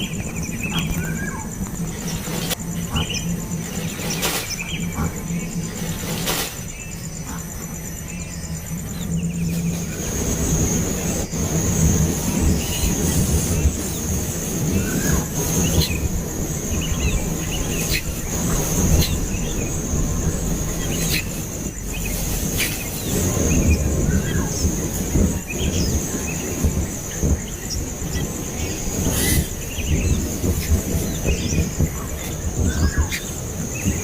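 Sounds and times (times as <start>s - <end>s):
high-pitched insect trill: 0.0s - 34.0s
low rumbling noise: 0.0s - 34.0s
young birds chirping: 0.0s - 34.0s.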